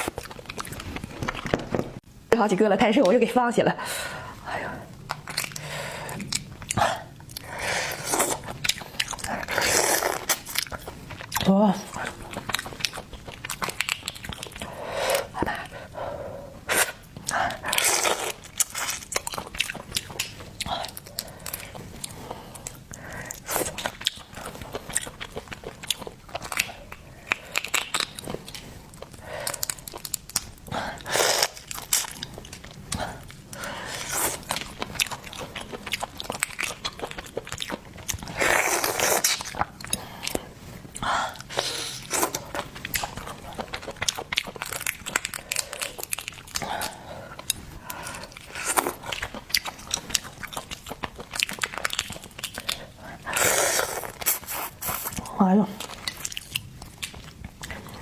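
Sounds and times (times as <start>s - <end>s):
chewing seafood crunches: 4.8s - 58.0s.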